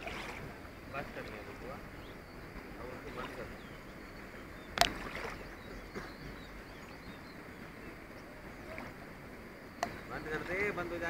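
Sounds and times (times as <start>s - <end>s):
river water hissing: 0.0s - 11.0s
wind: 0.0s - 11.0s.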